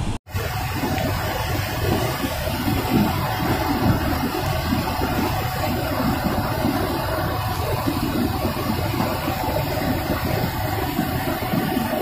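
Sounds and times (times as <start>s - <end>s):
waterfall crashing onto rocks: 0.0s - 12.0s.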